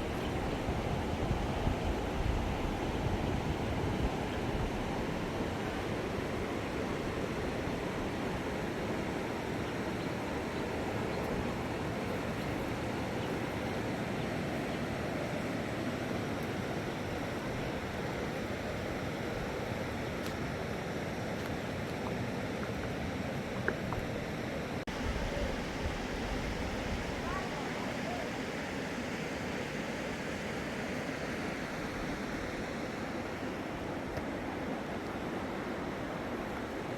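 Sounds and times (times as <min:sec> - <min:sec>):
rushing river water: 0:00.0 - 0:36.9.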